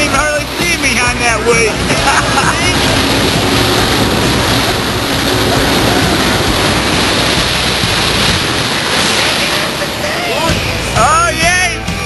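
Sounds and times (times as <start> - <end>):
faint engine drone: 0.0 - 12.0
water rushing: 0.0 - 12.0
wind: 0.0 - 12.0.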